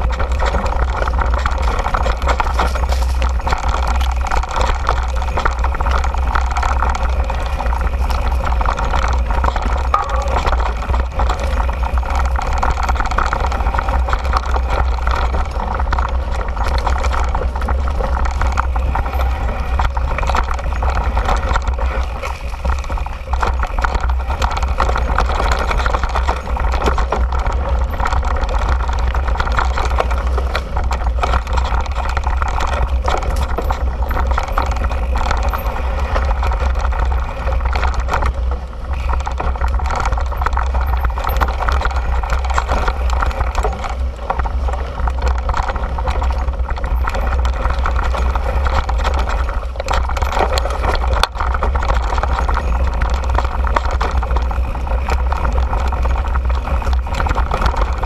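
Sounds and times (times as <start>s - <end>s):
bike clattering over rocks: 0.0s - 58.0s
deep rumble of bike riding: 0.0s - 58.0s.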